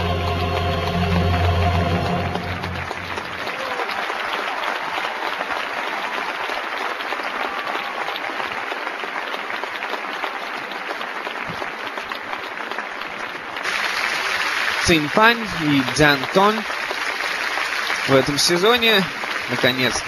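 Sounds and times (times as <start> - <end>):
audience applause: 0.0 - 20.0.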